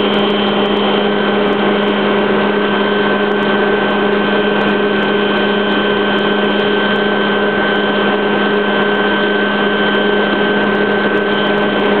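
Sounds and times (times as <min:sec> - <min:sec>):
helicopter engine and rotor drone: 0:00.0 - 0:12.0
steady whine: 0:00.0 - 0:12.0.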